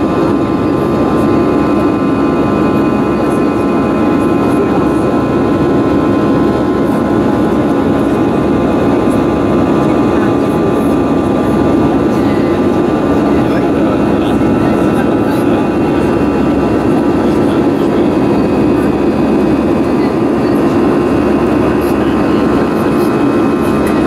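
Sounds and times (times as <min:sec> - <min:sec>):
airliner cabin engine noise: 0:00.0 - 0:24.0
high turbofan tones: 0:00.0 - 0:24.0.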